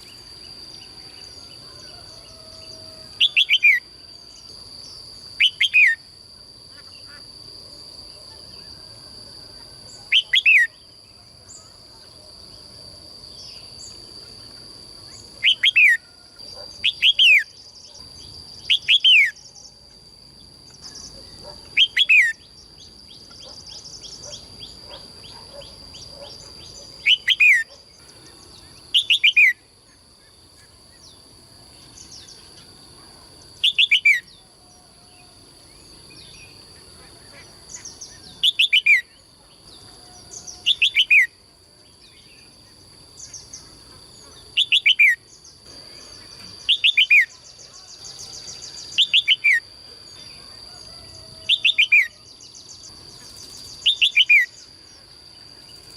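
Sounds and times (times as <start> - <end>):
songbird calling: 0.0 - 6.1, 9.4 - 12.2, 13.4 - 19.8, 20.7 - 31.2, 33.6 - 34.5, 36.1 - 41.4, 42.0 - 55.8.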